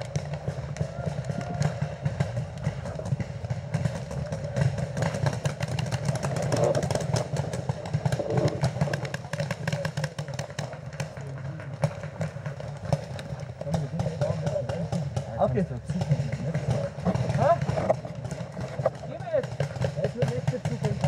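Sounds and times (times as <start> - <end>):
paintball markers firing: 0.0 - 21.0.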